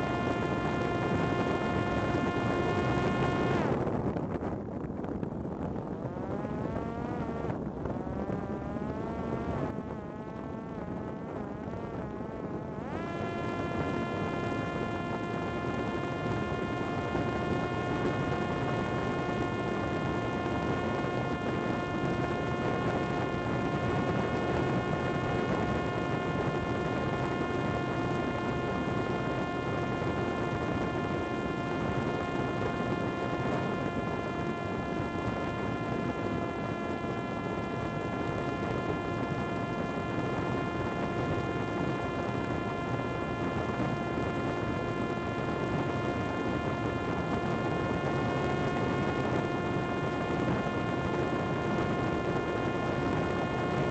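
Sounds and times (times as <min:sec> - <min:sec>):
drone motor high whine: 0:00.0 - 0:53.9.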